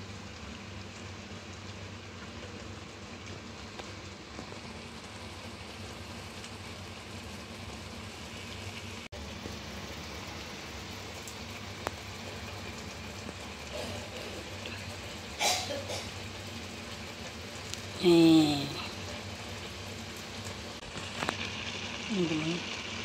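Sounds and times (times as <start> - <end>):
vegetables sizzling in a wok: 0.0 - 23.0.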